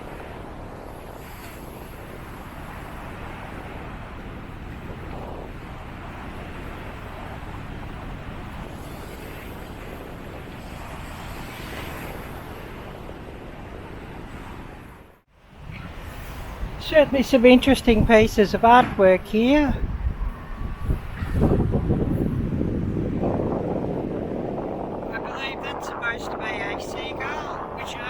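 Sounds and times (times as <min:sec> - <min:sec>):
surf: 0:00.0 - 0:28.0
wind buffeting microphone: 0:00.0 - 0:28.0.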